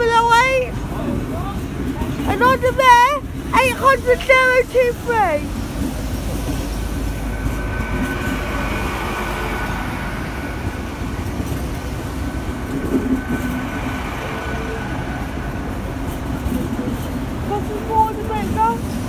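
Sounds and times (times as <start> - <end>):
train wheels rumbling: 0.0 - 19.0
thin steady whine: 2.2 - 19.0.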